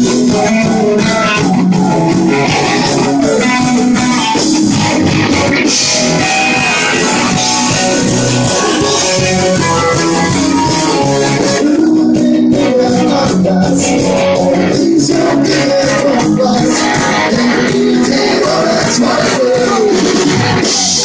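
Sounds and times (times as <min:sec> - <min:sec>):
drum beat: 0:00.0 - 0:21.0
live rock band playing: 0:00.0 - 0:21.0.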